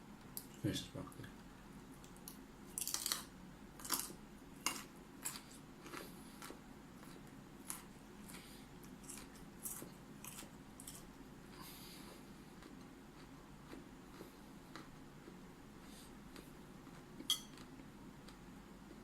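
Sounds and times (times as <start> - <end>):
chewing raw broccoli: 1.9 - 19.0.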